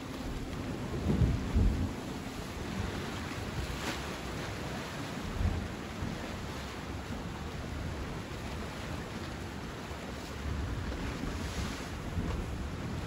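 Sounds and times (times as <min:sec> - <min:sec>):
wind buffeting microphone: 0:00.0 - 0:09.7, 0:10.4 - 0:13.0
sea surf rushing: 0:00.0 - 0:13.0.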